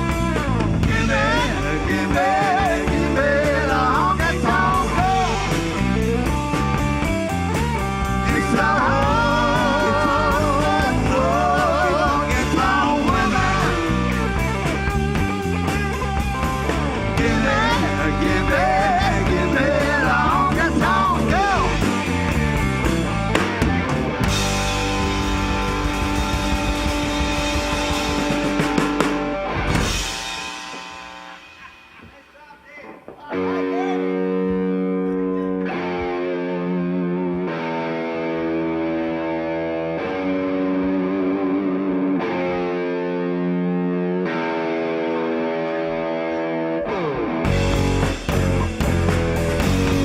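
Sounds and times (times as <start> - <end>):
distorted electric guitar chords: 0.0 - 50.0
rock band playing live: 0.0 - 50.0.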